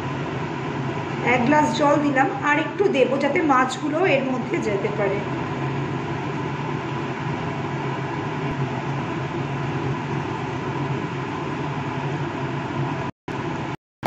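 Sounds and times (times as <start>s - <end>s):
gas stove rumbling hum: 0.0s - 13.8s.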